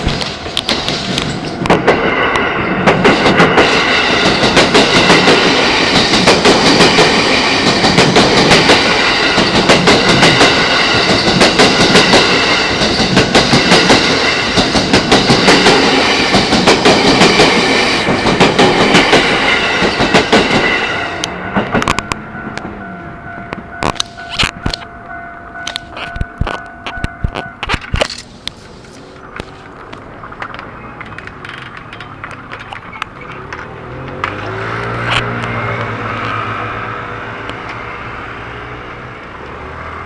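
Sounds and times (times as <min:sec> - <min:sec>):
train wheels clattering: 0:00.0 - 0:36.8.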